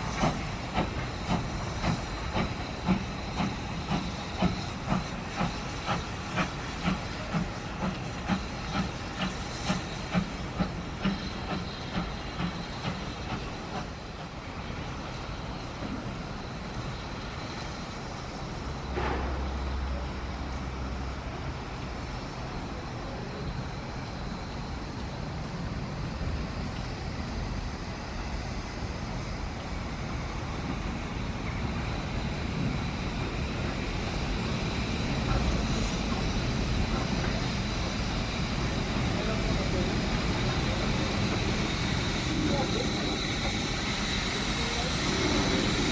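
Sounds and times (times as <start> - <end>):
steam locomotive exhaust beats: 0.0 - 45.9
train rumbling on rails: 0.0 - 45.9.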